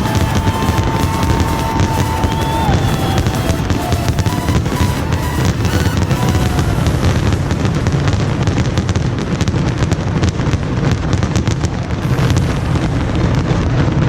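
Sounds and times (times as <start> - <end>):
fireworks booming: 0.0 - 14.0
fireworks crackling and popping: 0.0 - 14.0.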